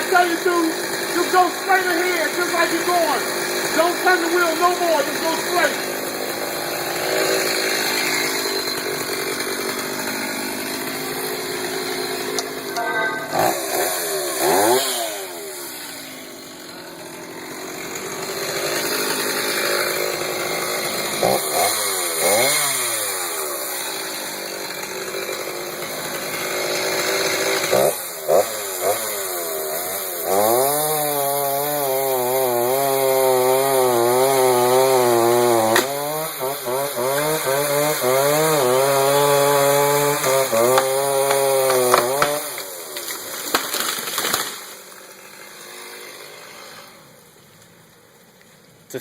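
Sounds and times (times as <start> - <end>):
chainsaw revving: 0.0 - 47.3.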